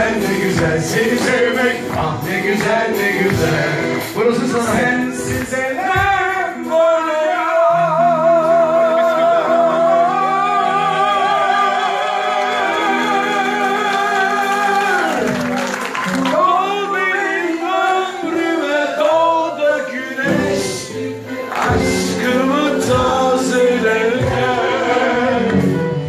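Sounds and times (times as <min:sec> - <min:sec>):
voices singing together: 0:00.0 - 0:15.6, 0:16.3 - 0:26.0
musical accompaniment: 0:00.0 - 0:26.0.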